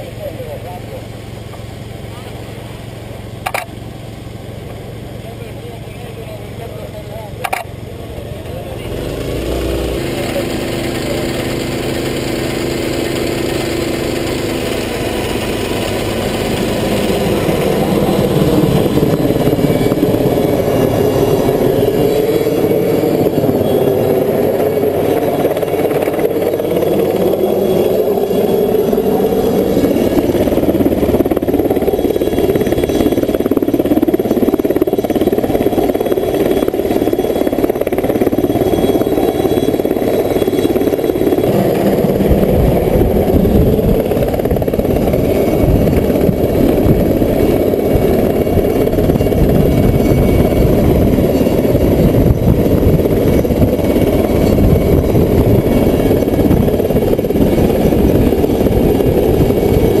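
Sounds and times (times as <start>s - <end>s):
helicopter rotor and engine: 0.0s - 60.0s.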